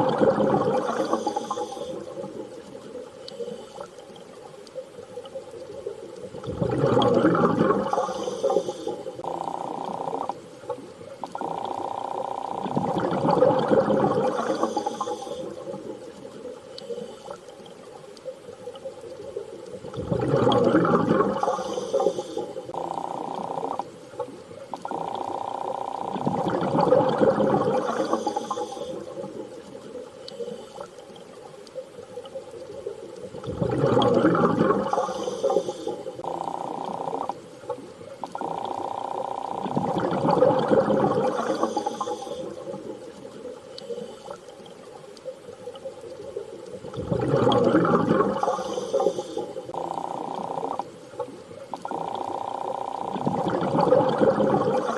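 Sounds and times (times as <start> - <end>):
underwater rushing bubbling water: 0.0 - 54.9.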